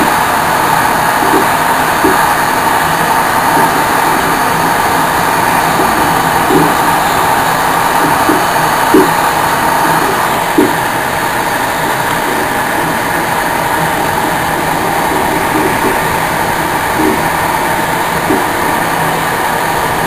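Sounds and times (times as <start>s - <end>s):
train rumble and hiss: 0.0s - 20.0s.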